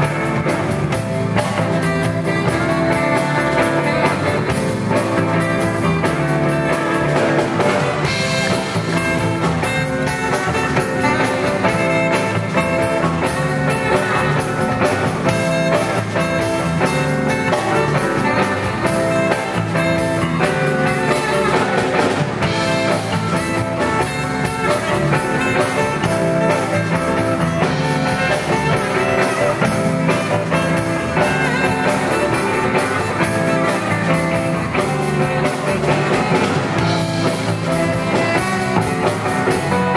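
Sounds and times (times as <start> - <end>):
blues-rock band playing: 0.0 - 39.9
tenor saxophone: 0.0 - 39.9.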